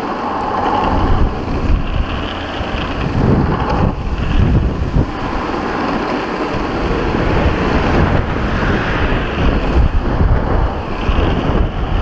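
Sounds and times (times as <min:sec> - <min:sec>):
wheels rolling on asphalt: 0:00.0 - 0:12.0
wind buffeting microphone: 0:00.0 - 0:12.0.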